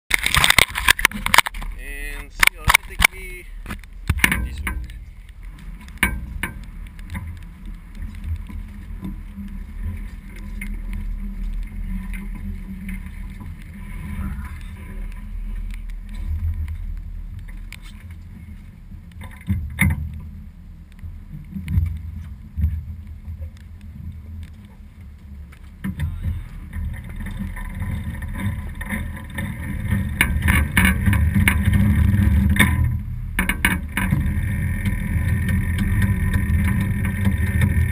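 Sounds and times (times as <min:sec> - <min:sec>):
wind and water rumble: 0:00.1 - 0:37.9.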